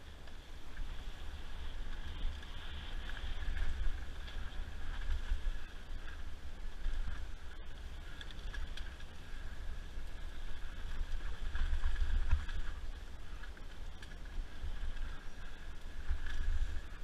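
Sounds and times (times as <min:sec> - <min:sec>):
tyres on dirt trail: 0:00.0 - 0:17.0
wind buffeting microphone: 0:00.0 - 0:17.0.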